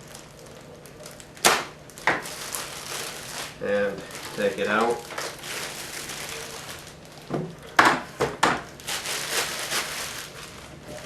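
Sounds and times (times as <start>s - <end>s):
plastic wrap and cardboard rustling: 0.0s - 11.0s
sharp crinkles and knocks: 0.0s - 11.0s.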